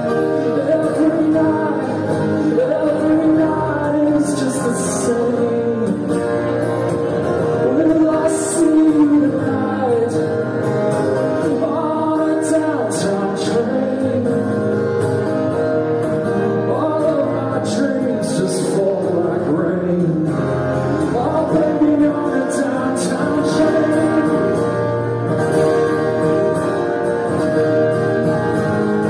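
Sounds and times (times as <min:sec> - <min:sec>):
man singing: 0:00.0 - 0:14.9, 0:16.5 - 0:25.2
acoustic guitar: 0:00.0 - 0:29.0.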